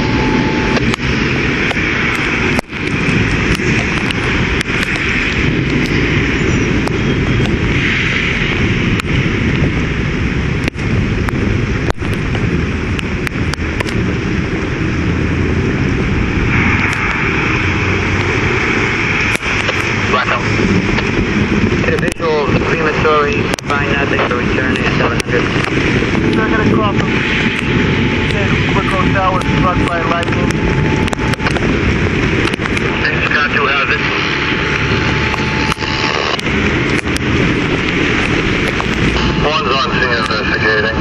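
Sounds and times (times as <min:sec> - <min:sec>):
gusting wind: 0:00.0 - 0:41.0
heavy rain: 0:00.0 - 0:41.0
wind buffeting microphone: 0:00.0 - 0:41.0.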